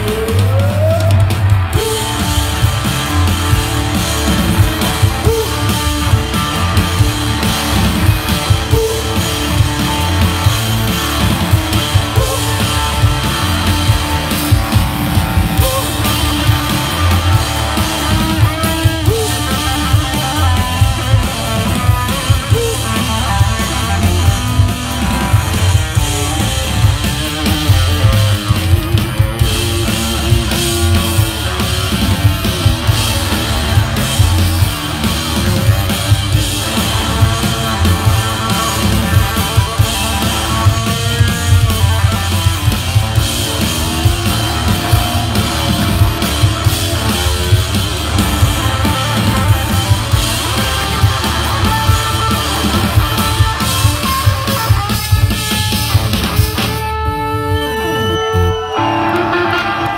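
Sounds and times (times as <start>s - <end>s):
bass line: 0.0s - 59.9s
drum kit beat: 0.0s - 59.9s
electric guitar: 0.0s - 59.9s.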